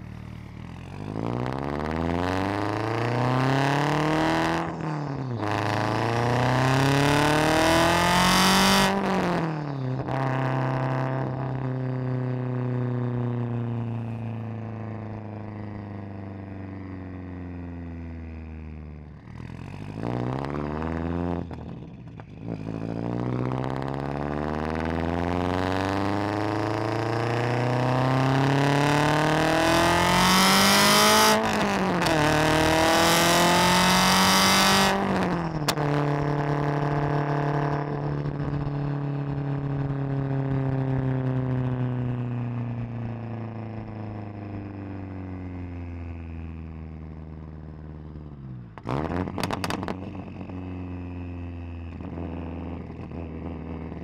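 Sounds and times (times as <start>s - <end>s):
turbocharged car engine at full throttle: 0.0s - 54.0s.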